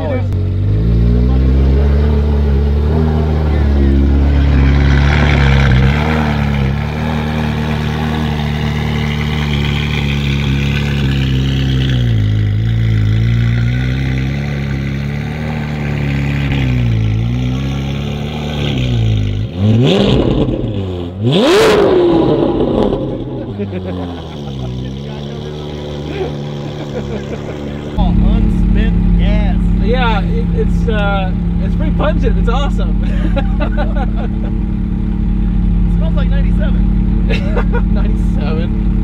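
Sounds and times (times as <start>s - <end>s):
car engine at low revs: 0.0s - 39.0s
sharp throttle revs: 0.5s - 39.0s.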